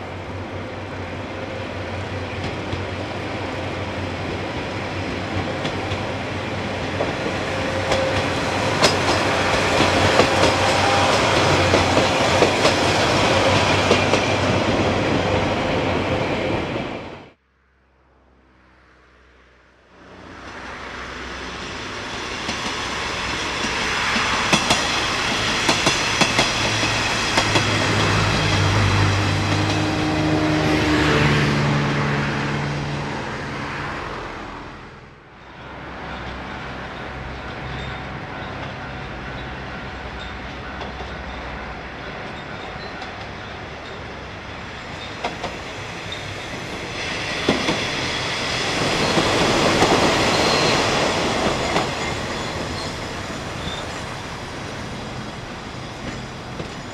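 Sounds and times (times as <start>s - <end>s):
diesel train engine: 0.0s - 17.4s, 18.8s - 56.9s.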